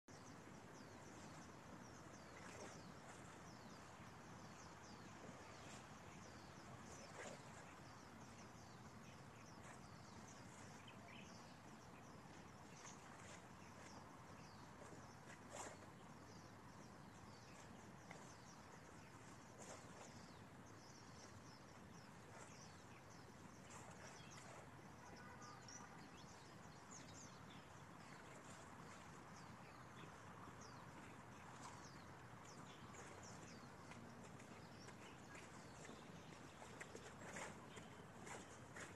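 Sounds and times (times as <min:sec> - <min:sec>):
faint outdoor hiss: 0:00.0 - 0:38.9
small birds chirping: 0:00.1 - 0:38.9.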